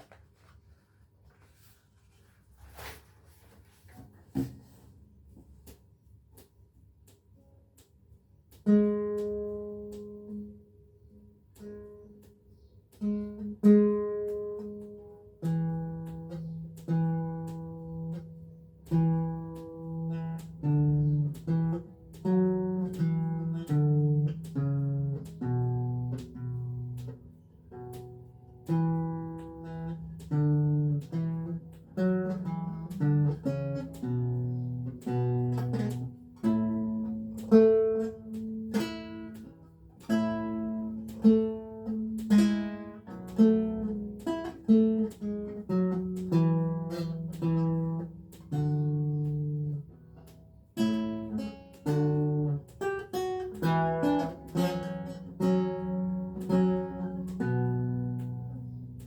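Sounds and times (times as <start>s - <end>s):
lute playing a slow piece: 8.5s - 59.0s.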